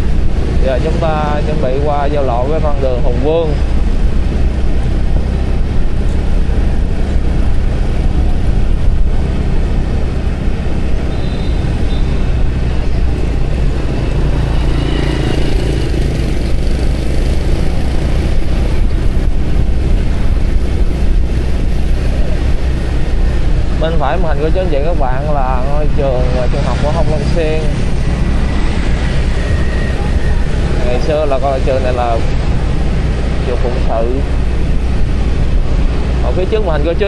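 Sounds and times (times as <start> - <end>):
motorbike engine drone: 0.0 - 37.0
road noise: 0.0 - 37.0
traffic passing: 0.0 - 37.0.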